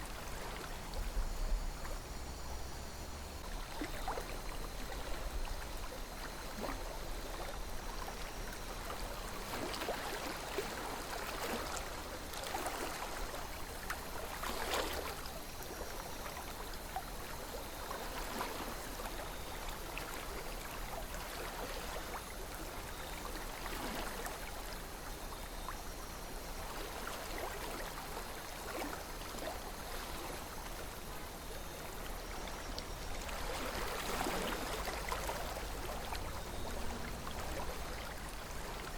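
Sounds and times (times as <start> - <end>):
river water flowing: 0.0 - 38.9
water splashing and gurgling: 3.4 - 25.0, 26.5 - 38.9.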